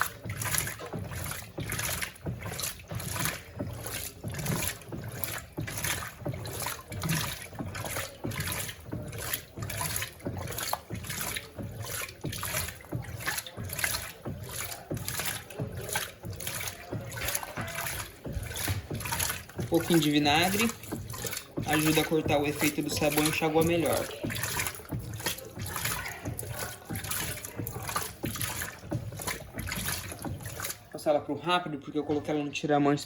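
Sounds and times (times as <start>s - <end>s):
washing machine swishing water: 0.0s - 33.0s.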